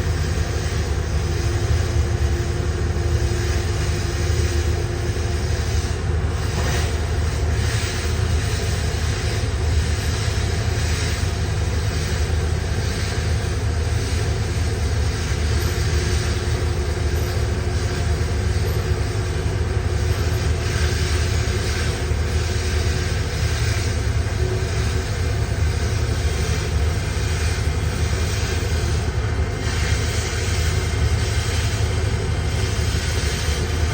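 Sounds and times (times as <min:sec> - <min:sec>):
welding arc hissing: 0:00.0 - 0:33.9.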